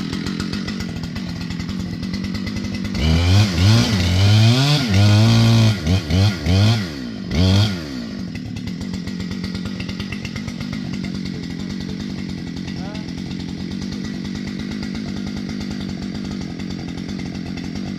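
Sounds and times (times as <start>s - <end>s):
chainsaw idling and revving: 0.0s - 17.9s.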